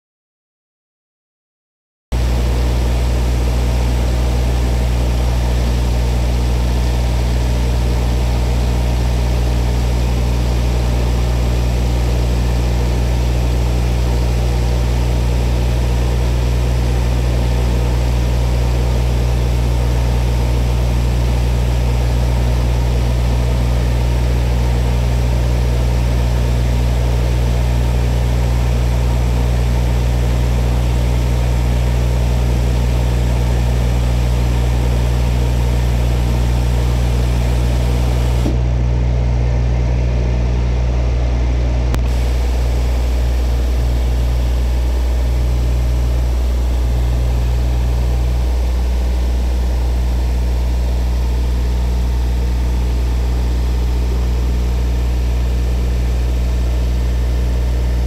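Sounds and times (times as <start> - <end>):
machine cutter head humming: 2.2 - 38.8, 41.9 - 58.0.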